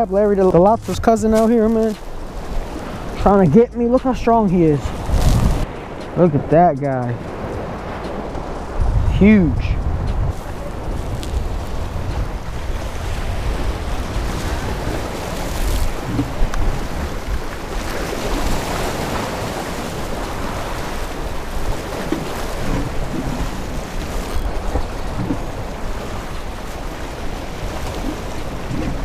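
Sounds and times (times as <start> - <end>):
sea waves splashing against rocks: 0.0 - 29.0
wind buffeting microphone: 0.0 - 29.0.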